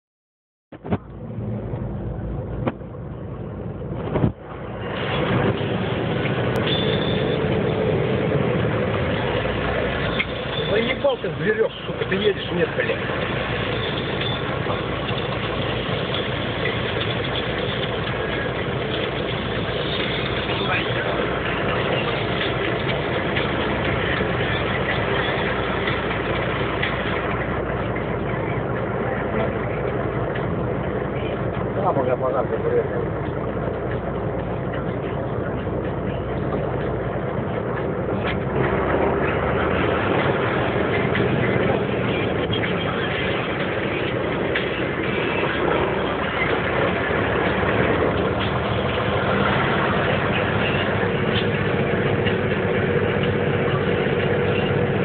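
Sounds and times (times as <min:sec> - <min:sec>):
road noise: 0:00.7 - 0:55.0
truck engine running: 0:00.7 - 0:55.0.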